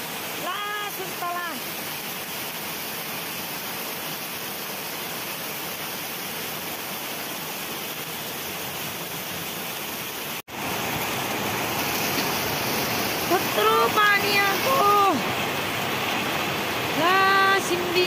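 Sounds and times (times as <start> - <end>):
heavy rain on grass: 0.0 - 18.0.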